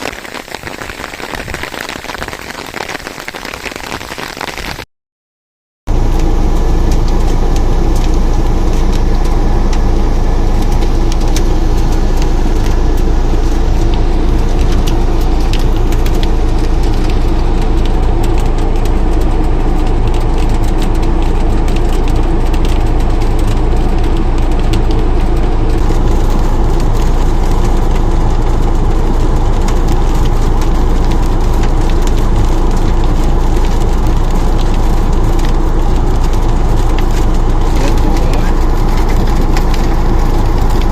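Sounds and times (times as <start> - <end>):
heavy rain crackling: 0.0 - 4.9, 5.9 - 40.9
constant low rumble: 5.9 - 40.9.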